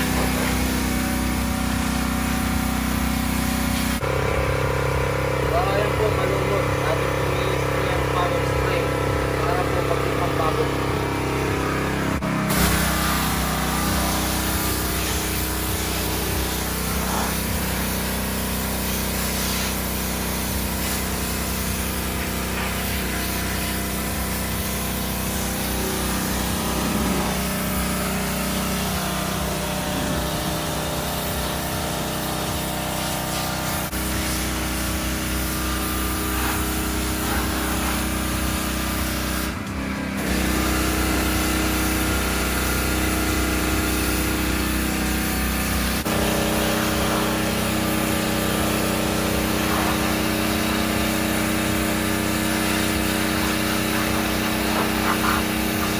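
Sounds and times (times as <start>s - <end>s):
pressure washer engine droning: 0.0s - 55.9s
water spray hissing: 0.0s - 55.9s.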